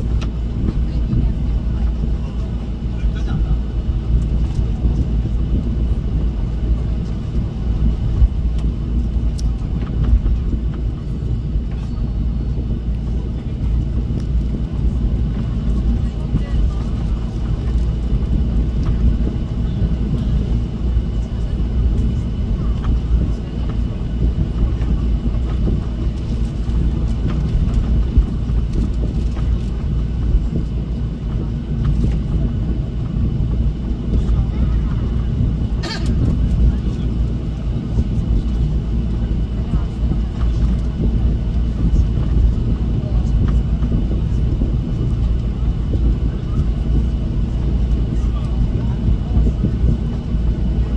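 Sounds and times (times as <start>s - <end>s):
jet engine rumble in cabin: 0.0s - 50.9s.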